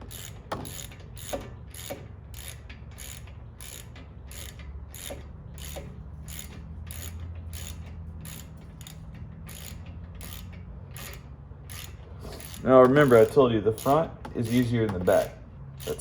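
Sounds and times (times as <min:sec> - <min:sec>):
ratchet wrench clicking: 0:00.0 - 0:16.0.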